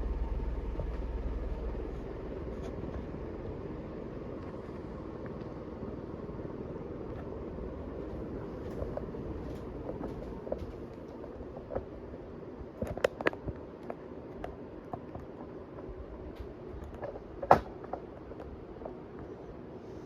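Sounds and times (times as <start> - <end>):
ceiling fan humming: 0.0 - 20.0.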